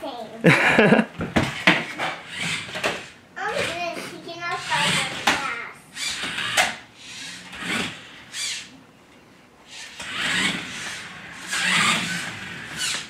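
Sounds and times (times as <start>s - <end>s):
toy electric motor whirring: 1.4s - 8.8s, 9.7s - 13.0s.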